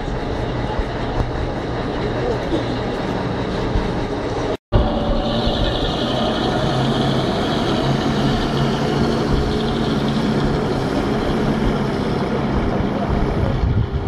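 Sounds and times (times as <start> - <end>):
bus engine driving past: 0.0 - 14.0.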